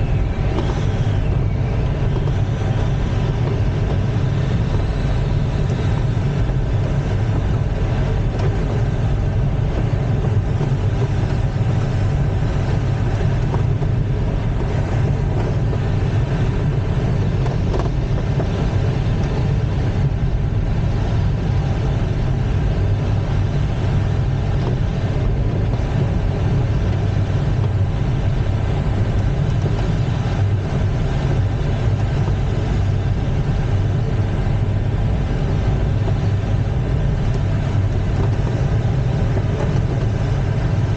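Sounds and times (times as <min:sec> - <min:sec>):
airflow rushing around cockpit: 0:00.0 - 0:40.9.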